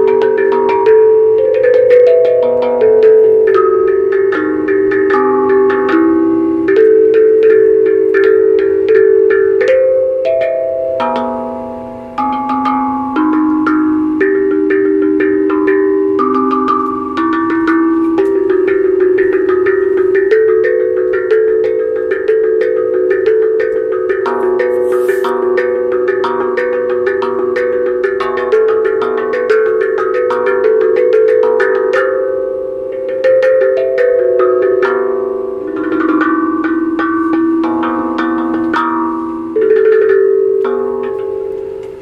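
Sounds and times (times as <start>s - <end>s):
tuned percussion melody: 0.0s - 42.0s.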